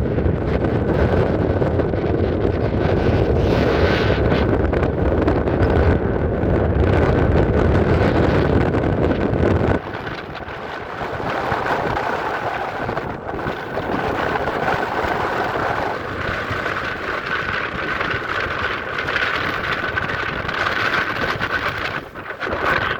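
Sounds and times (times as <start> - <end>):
wind across microphone: 0.0 - 22.9.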